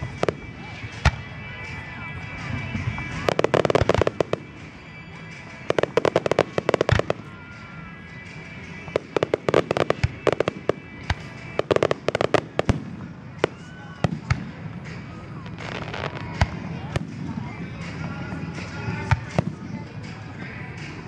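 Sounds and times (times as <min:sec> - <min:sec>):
fireworks cracking: 0:00.0 - 0:21.0.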